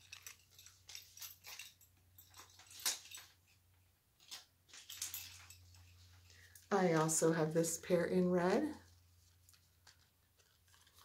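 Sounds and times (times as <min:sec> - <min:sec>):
jewelry rustling and clicking: 0:00.0 - 0:07.3, 0:08.8 - 0:11.0.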